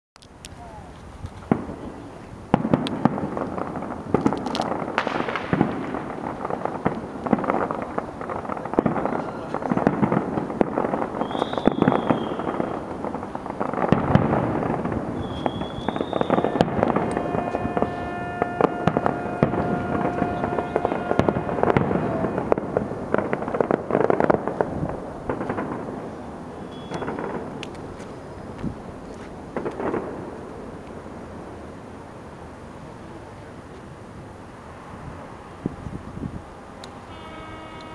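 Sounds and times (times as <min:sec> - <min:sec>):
fireworks bursting and crackling: 0:00.2 - 0:37.9
high fireworks whistles: 0:01.4 - 0:30.5, 0:34.9 - 0:37.9.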